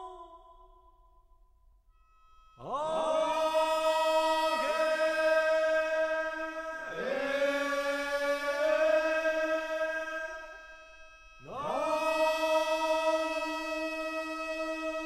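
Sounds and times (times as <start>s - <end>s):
person chanting long tones: 0.0s - 1.0s, 2.2s - 15.0s.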